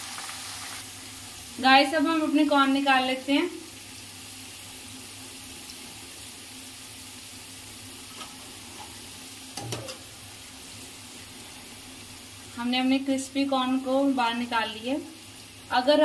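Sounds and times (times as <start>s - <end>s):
corn frying in hot oil: 0.0s - 16.0s.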